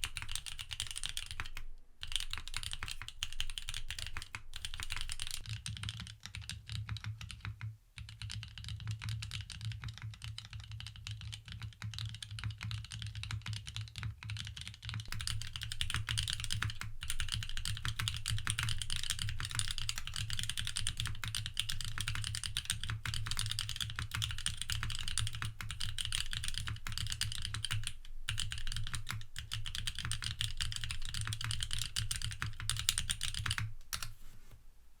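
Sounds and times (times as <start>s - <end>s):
mechanical keyboard typing: 0.0s - 7.5s, 12.9s - 34.2s.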